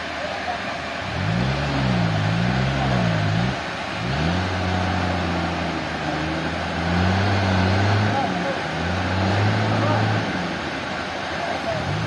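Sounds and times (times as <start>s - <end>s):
constant hiss: 0.0s - 12.0s
engine changing speed: 1.0s - 12.0s.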